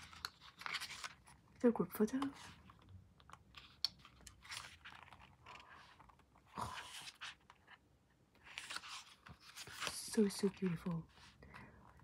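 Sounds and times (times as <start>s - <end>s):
paper rustling: 0.0s - 1.4s, 2.0s - 7.8s, 8.4s - 11.4s.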